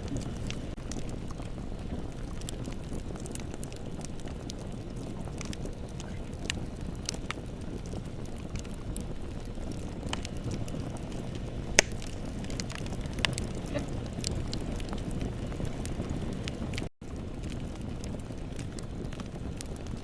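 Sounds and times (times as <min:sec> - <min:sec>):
bonfire crackling and popping: 0:00.0 - 0:20.0
low rumble of flames: 0:00.0 - 0:20.0.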